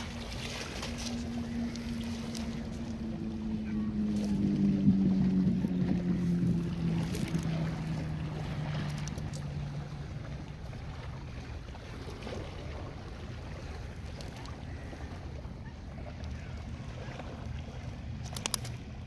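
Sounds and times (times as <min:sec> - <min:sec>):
engine droning past: 0:00.0 - 0:19.0.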